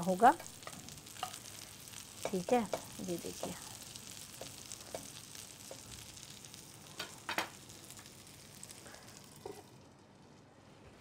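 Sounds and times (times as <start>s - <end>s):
omelette sizzling in a frying pan: 0.0s - 10.3s.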